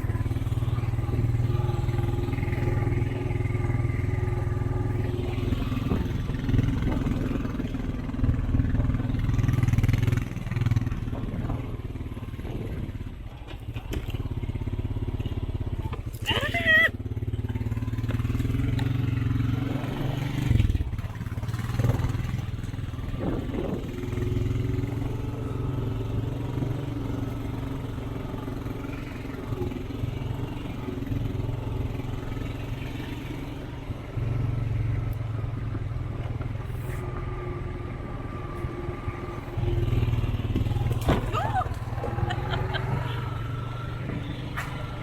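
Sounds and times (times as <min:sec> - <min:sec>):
clatter over rough ground: 0:00.0 - 0:45.0
off-road vehicle engine running: 0:00.0 - 0:45.0.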